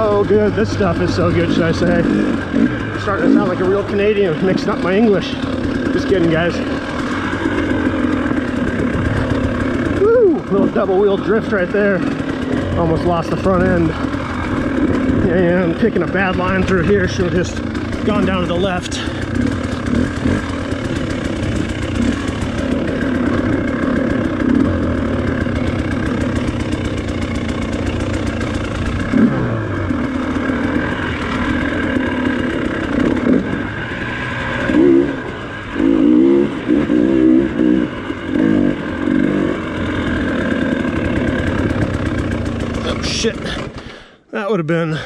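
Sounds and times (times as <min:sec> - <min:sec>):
sharp throttle blips: 0:00.0 - 0:44.0
dirt bike engine running: 0:00.0 - 0:45.0.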